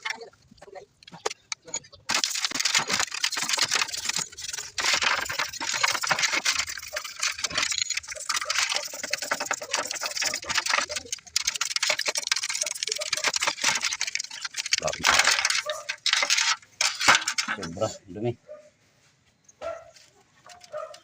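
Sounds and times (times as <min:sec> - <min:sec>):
scrubbing metal parts: 0:01.0 - 0:18.0.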